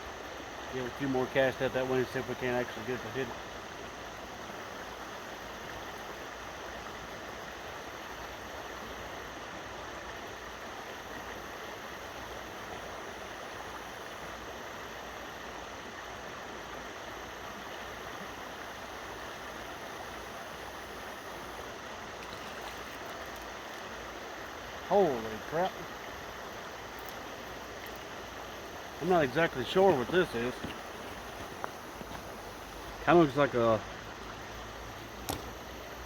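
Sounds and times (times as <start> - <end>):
river water rushing below dam: 0.0 - 36.0.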